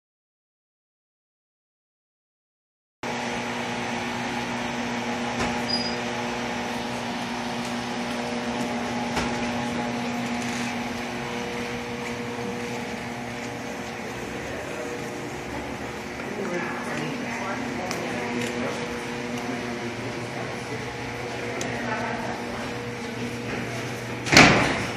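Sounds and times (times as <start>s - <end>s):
electrical hum: 3.1s - 24.9s.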